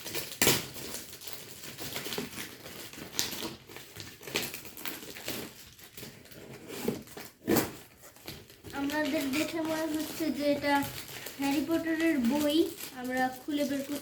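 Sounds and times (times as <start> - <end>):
packaging ripping: 0.0 - 14.0
paper and cardboard rustling: 0.0 - 14.0.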